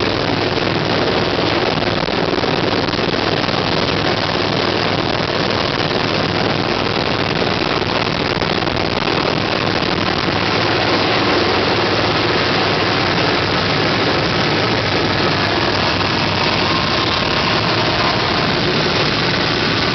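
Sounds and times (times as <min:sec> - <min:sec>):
vehicle engine idling: 0:00.0 - 0:19.9.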